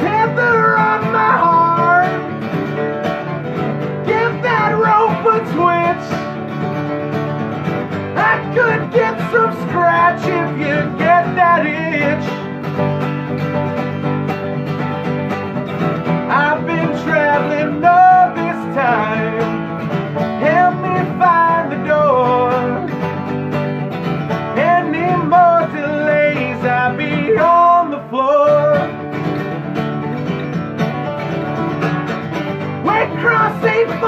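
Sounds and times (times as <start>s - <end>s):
acoustic country band playing: 0.0s - 34.0s.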